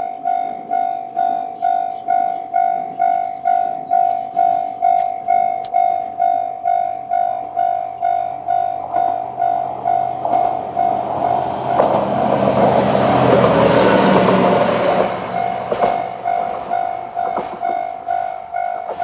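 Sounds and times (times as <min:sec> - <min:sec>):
level crossing bell ringing: 0:00.0 - 0:11.9, 0:15.3 - 0:19.0
diesel railcar rumbling: 0:00.0 - 0:19.0
train wheel clicks on rail joints: 0:00.4 - 0:19.0.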